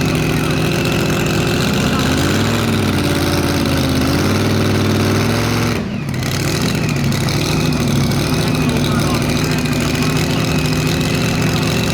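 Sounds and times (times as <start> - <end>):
turbocharged diesel engine revving: 0.0 - 11.9.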